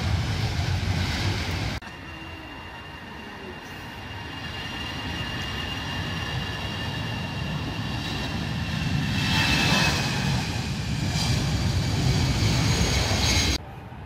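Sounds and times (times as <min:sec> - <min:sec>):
jet engines whining and rumbling: 0:00.0 - 0:14.0.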